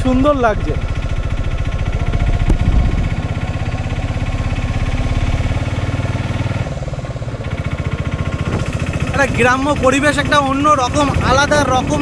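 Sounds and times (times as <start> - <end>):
auto-rickshaw engine running: 0.0 - 12.0.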